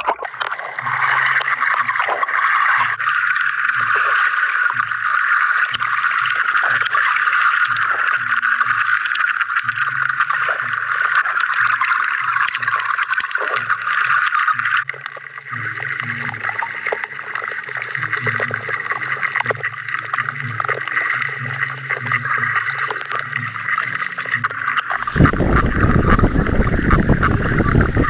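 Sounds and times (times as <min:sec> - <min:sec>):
underwater hiss and crackling: 0:00.0 - 0:28.0.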